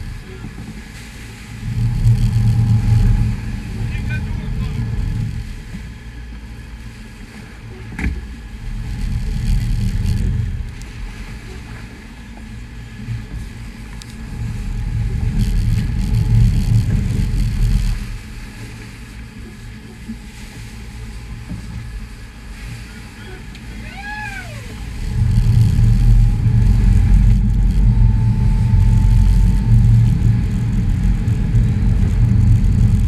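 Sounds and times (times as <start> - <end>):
boat engines rumbling: 0.0 - 33.0
water rushing against hull: 0.0 - 33.0
wind: 0.0 - 33.0.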